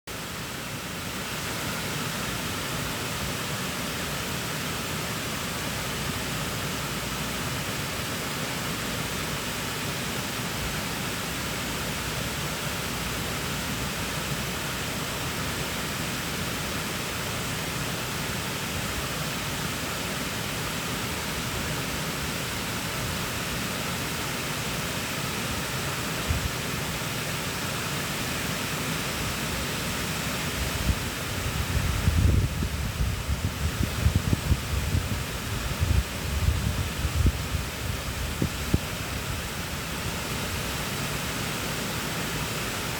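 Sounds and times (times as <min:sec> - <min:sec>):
running water: 0:00.1 - 0:42.9.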